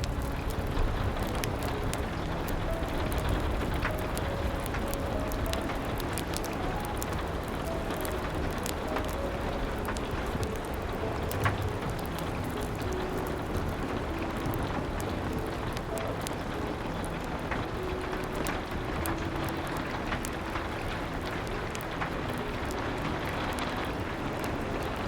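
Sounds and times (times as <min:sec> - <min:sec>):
steady rain: 0:00.0 - 0:25.0
wood fire crackling: 0:00.0 - 0:25.0.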